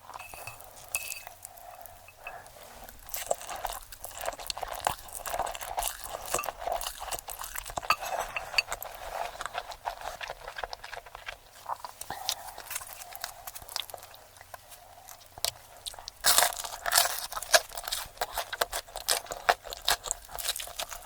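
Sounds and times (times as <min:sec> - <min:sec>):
person chewing crunchy food: 0:00.0 - 0:21.0.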